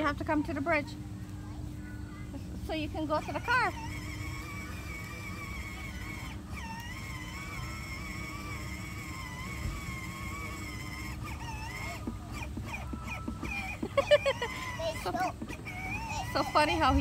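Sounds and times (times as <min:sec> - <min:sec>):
toy electric motor whining: 0:02.1 - 0:17.0.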